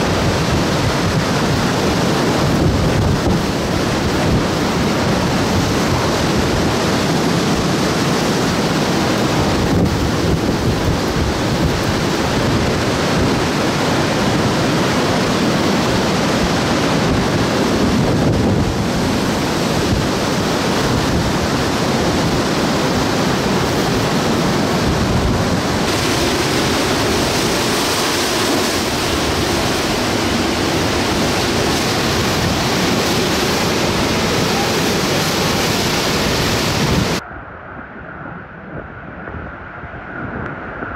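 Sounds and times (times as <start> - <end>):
heavy driving rain: 0.0 - 37.2
strong wind buffeting microphone: 0.0 - 40.9.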